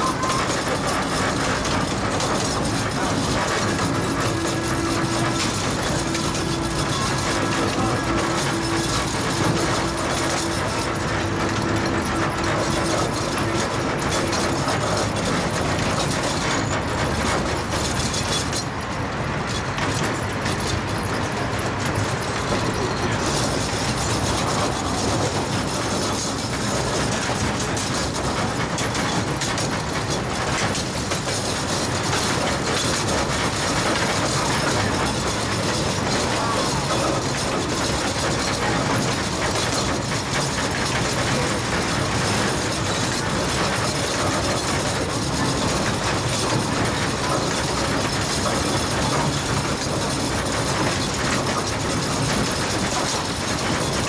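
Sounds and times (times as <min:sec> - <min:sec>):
train cars rumbling on rails: 0:00.0 - 0:54.0.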